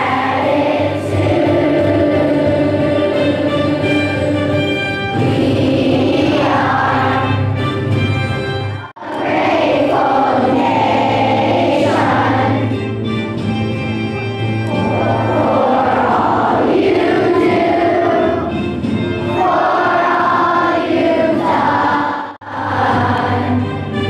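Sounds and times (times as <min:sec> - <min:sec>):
children singing in chorus: 0:00.0 - 0:07.6, 0:08.8 - 0:12.8, 0:14.7 - 0:18.6, 0:19.3 - 0:23.8
musical accompaniment: 0:00.0 - 0:24.0.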